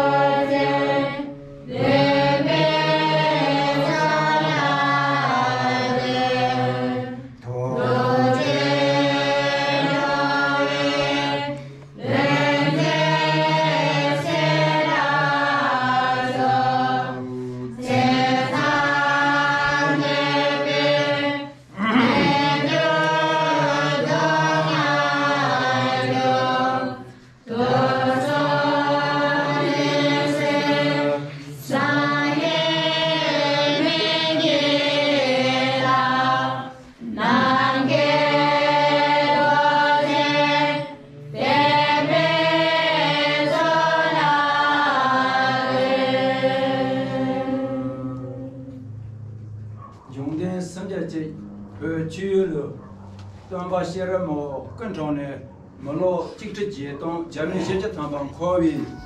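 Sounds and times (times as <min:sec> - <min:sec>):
steady low hum: 0:00.0 - 0:58.8
group singing devotional chant: 0:00.0 - 0:59.0.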